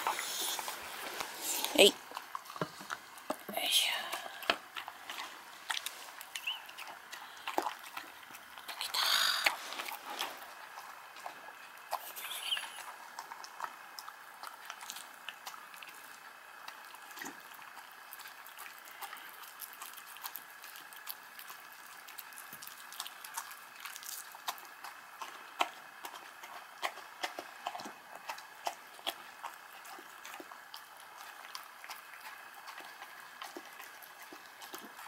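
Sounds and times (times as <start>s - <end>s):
animals eating wet food: 0.0s - 35.0s.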